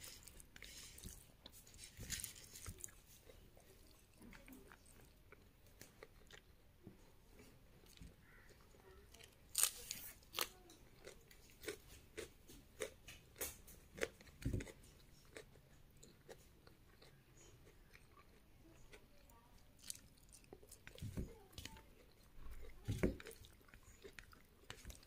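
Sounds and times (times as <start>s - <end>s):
crisp crunchy chewing: 0.0s - 6.6s, 7.8s - 25.0s.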